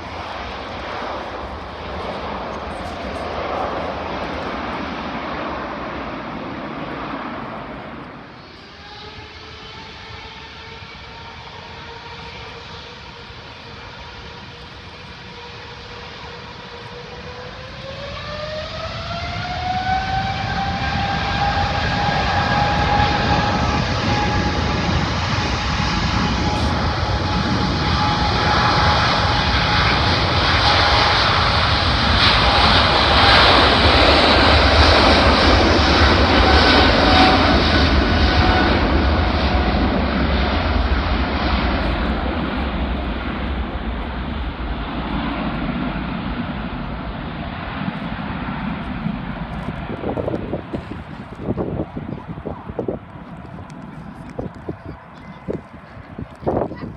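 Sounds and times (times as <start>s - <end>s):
jet engines spooling up: 0.0s - 56.9s.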